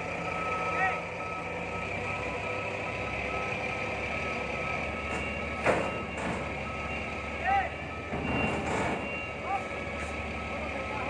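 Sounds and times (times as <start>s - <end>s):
forklift engine running: 0.0s - 11.0s
reversing alarm beeping: 0.2s - 11.0s.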